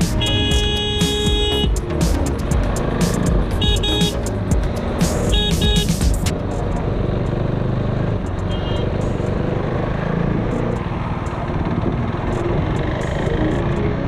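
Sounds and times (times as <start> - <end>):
background music: 0.0 - 6.8, 9.0 - 14.0
motorcycle engine: 0.0 - 14.0
road and wind noise: 0.0 - 14.0.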